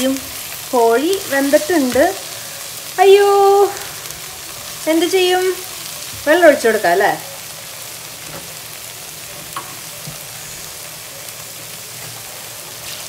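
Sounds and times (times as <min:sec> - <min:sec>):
curry sizzling in a pot: 0:00.0 - 0:13.0.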